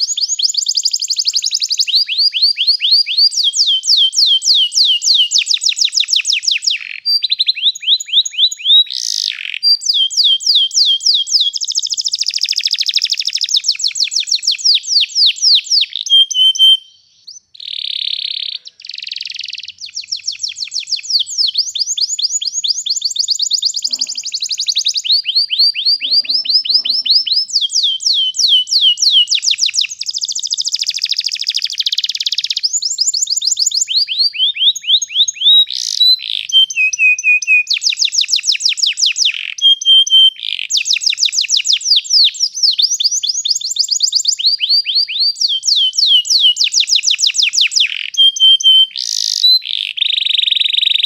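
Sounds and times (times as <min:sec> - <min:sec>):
canary singing trills: 0:00.0 - 0:51.0.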